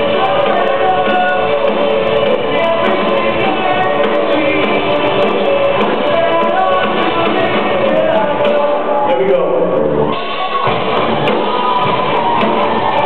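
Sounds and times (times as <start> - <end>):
person singing: 0.0 - 10.6
drums: 0.0 - 13.0.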